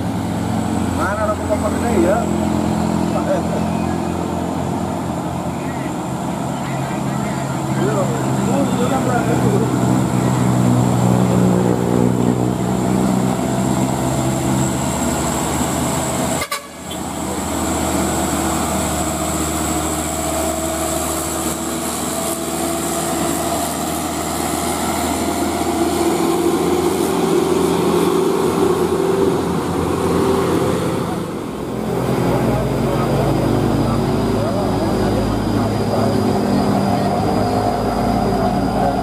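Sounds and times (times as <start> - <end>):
diesel truck engine under load: 0.0 - 39.0.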